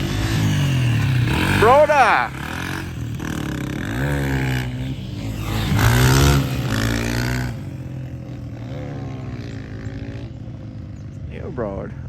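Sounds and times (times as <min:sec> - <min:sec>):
dirt bike engine revving: 0:00.0 - 0:10.7.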